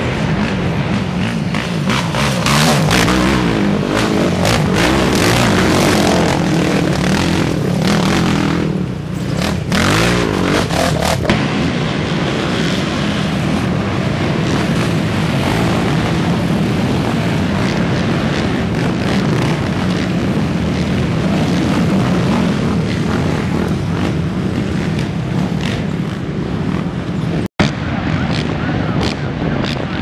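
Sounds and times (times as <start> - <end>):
racing quad engines revving: 0.0 - 30.0.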